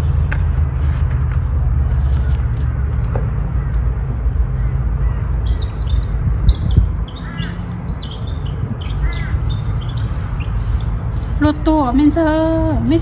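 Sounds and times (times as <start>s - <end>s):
steady low rumble: 0.0s - 13.0s
birds chirping and squawking: 1.3s - 13.0s.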